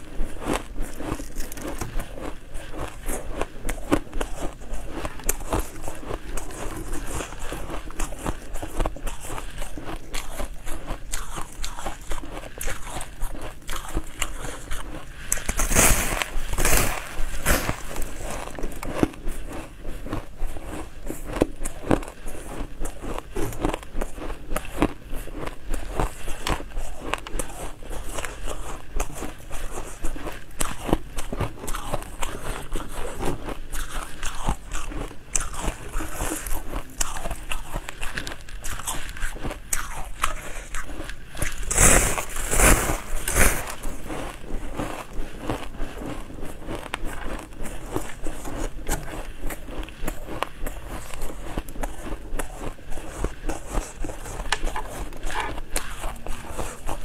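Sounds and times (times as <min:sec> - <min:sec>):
crunching and chewing: 0:00.0 - 0:57.0.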